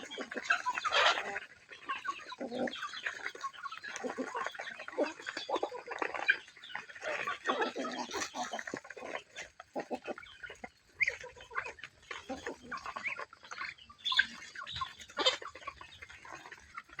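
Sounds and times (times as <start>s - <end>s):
farm animals calling: 0.0s - 17.0s.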